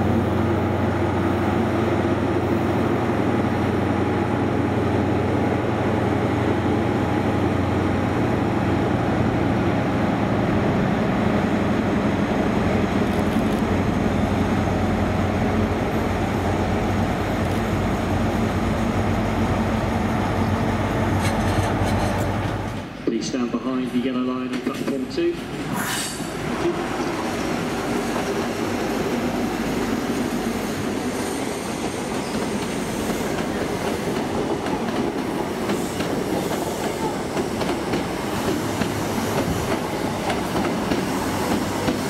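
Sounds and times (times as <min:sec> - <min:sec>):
diesel train engine hum: 0:00.0 - 0:42.0
train arriving along platform: 0:00.0 - 0:42.0.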